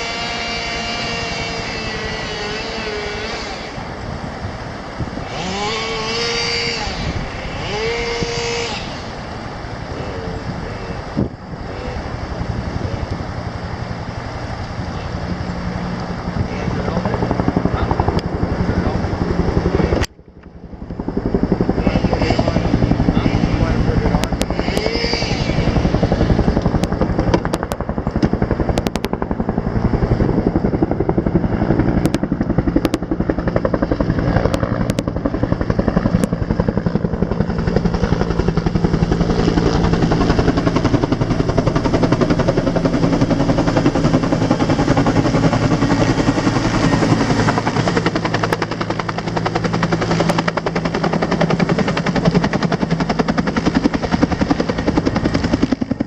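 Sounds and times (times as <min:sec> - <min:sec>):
helicopter engine tone: 0:00.0 - 0:56.0
helicopter rotor chopping: 0:00.0 - 0:56.0.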